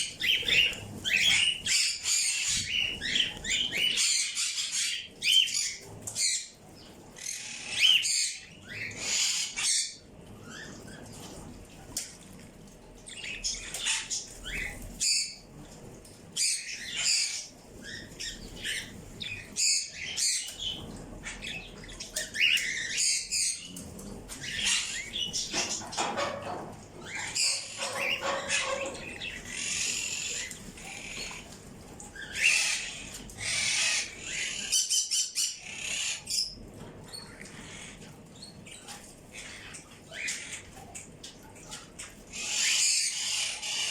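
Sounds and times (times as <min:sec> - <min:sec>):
birds chirping: 0:00.0 - 0:12.2, 0:13.0 - 0:43.9.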